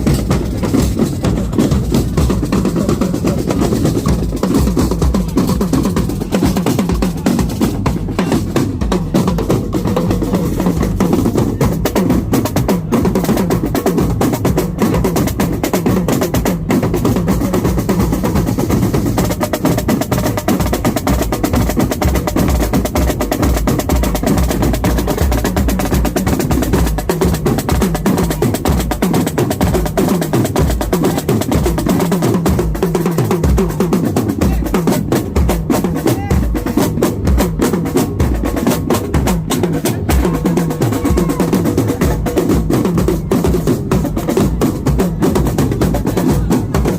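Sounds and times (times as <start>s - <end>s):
bass drums beating: 0.0s - 46.9s.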